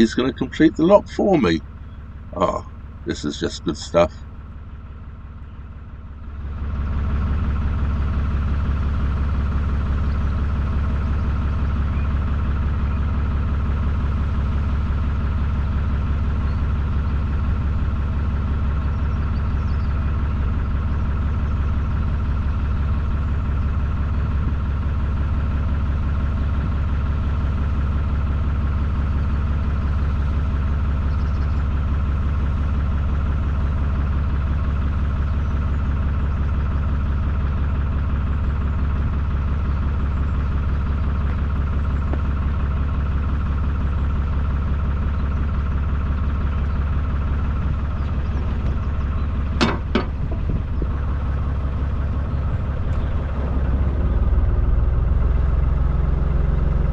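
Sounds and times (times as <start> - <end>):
boat engine running at low revs: 0.0 - 56.9.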